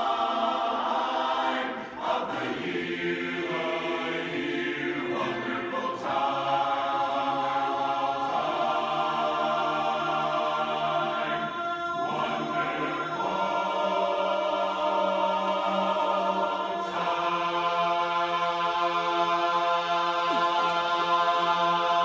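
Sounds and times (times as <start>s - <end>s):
men's chorus singing a cappella: 0.0s - 22.0s.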